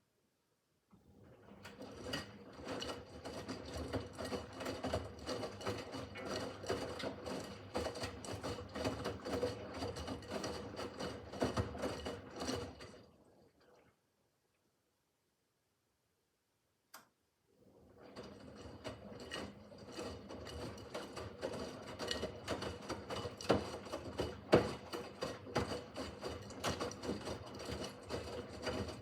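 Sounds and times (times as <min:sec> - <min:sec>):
washing machine motor hum: 0:01.0 - 0:13.9, 0:17.5 - 0:29.0.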